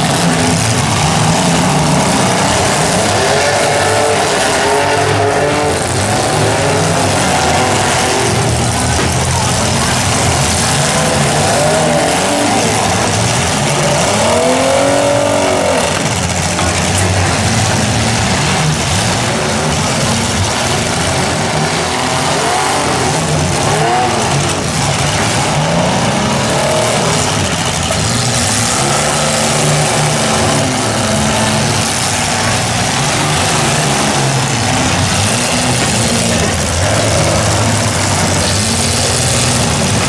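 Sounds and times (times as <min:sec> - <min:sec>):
car engines revving hard: 0:00.0 - 0:40.0
constant loud din: 0:00.0 - 0:40.0.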